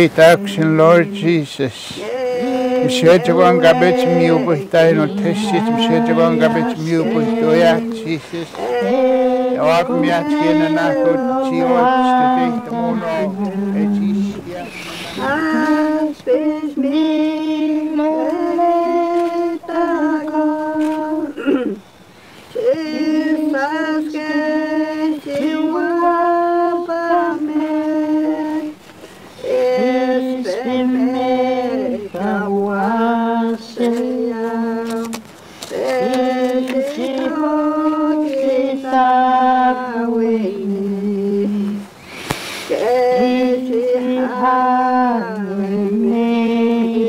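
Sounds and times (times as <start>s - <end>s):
unaccompanied hymn singing: 0.0s - 47.0s.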